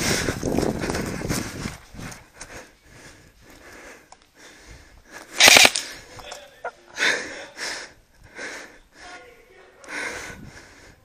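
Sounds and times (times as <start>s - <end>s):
person breathing hard: 0.0s - 6.1s, 7.0s - 9.2s, 9.9s - 11.0s.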